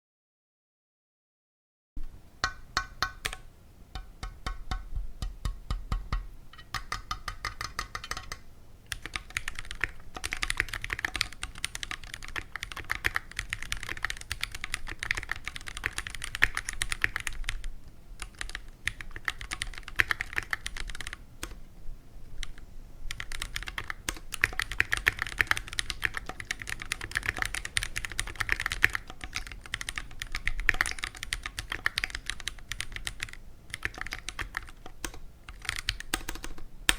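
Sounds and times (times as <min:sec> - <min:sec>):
mechanical keyboard typing: 0:03.0 - 0:03.4, 0:06.6 - 0:21.6, 0:22.4 - 0:36.9.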